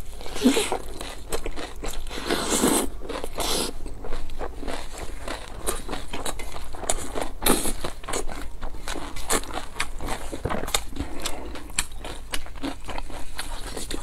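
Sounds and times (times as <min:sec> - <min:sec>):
crunchy bites and chewing: 0:00.0 - 0:14.0.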